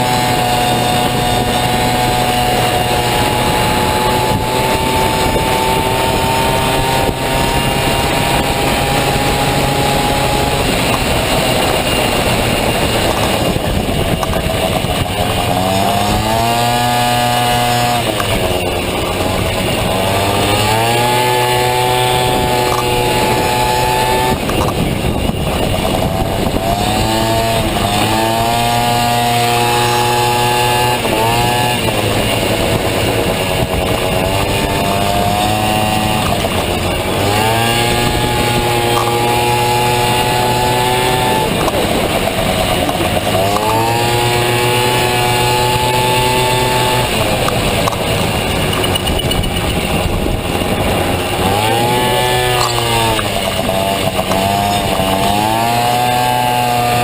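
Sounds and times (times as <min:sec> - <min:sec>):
two-stroke scooter engine revving: 0:00.0 - 0:57.0.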